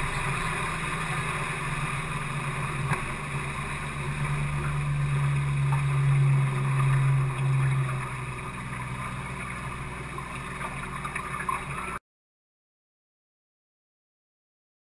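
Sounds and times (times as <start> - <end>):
outboard motor droning: 0.0 - 12.0
wind: 0.0 - 12.0.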